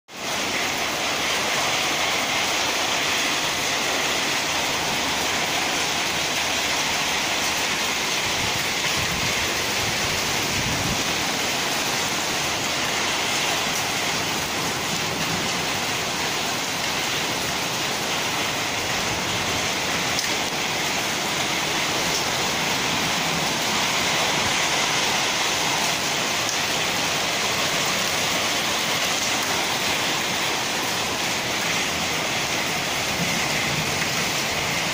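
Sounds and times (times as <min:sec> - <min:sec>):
hailstones pelting the ground: 0:00.1 - 0:34.9.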